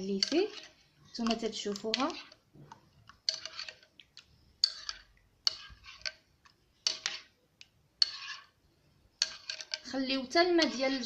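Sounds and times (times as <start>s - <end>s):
spoon clinking and scraping dish: 0.1s - 2.4s, 3.1s - 7.3s, 8.0s - 8.6s, 9.2s - 11.0s.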